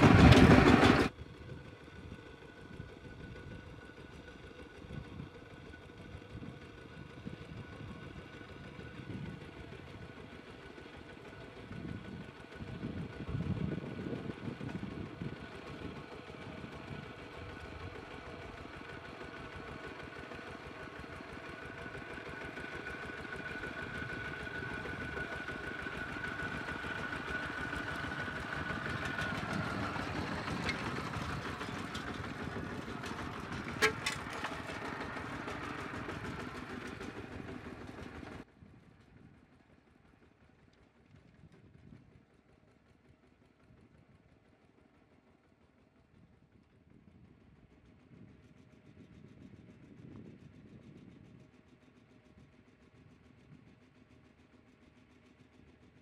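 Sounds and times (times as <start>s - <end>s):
walking tractor engine running: 0.0s - 56.0s.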